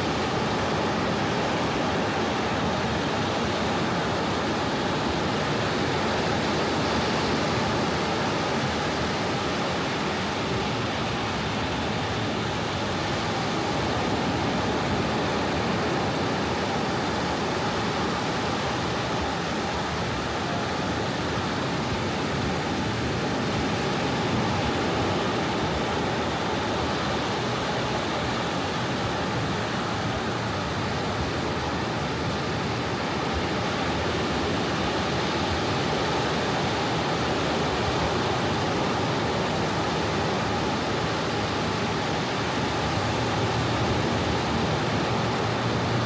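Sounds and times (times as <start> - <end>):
sea waves washing onto beach: 0.0 - 46.0.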